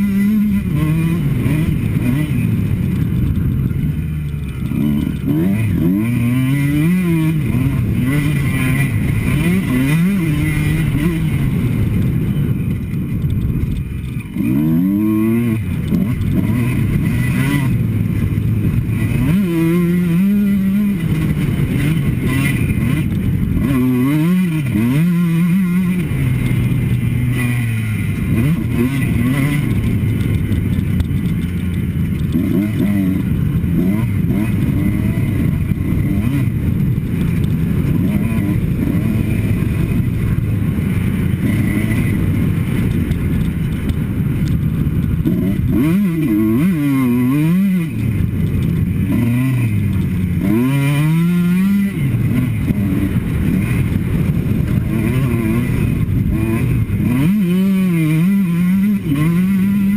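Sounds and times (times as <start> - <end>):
motocross bike engine revving: 0.0 - 59.9
wind noise: 0.0 - 59.9.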